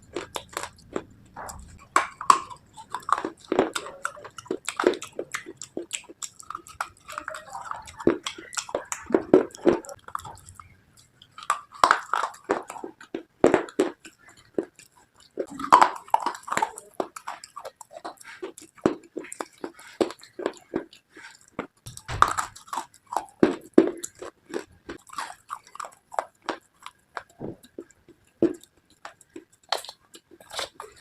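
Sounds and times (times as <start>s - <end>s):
person chewing slate: 0.0s - 31.0s.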